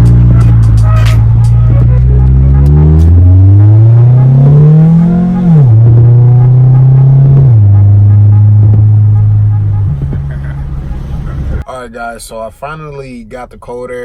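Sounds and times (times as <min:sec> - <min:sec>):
car engine accelerating: 0:00.0 - 0:11.6.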